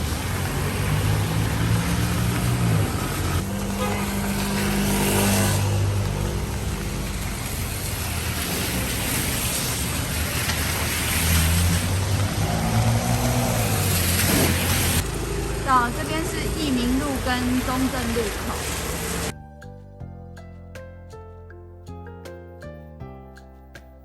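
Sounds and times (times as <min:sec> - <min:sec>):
car engines running: 0:00.0 - 0:19.3
tyres hissing on wet road: 0:00.0 - 0:19.3.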